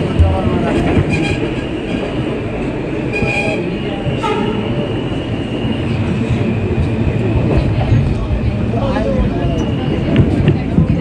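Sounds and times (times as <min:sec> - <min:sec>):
rumble of train wheels on rail: 0:00.0 - 0:11.0.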